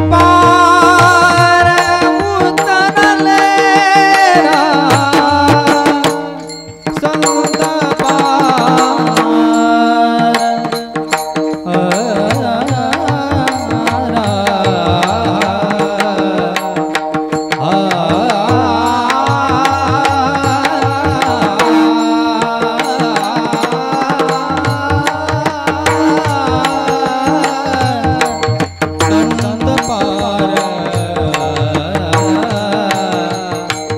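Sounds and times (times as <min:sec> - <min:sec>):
tabla strokes: 0:00.0 - 0:33.9.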